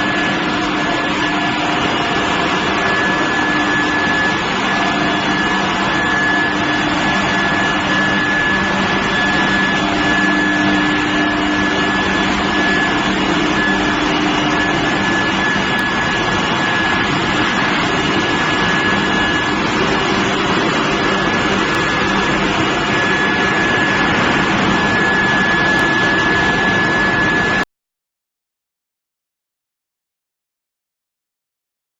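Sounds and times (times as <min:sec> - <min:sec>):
furnace machine noise: 0:00.0 - 0:27.6
high-pitched whine: 0:00.0 - 0:27.7.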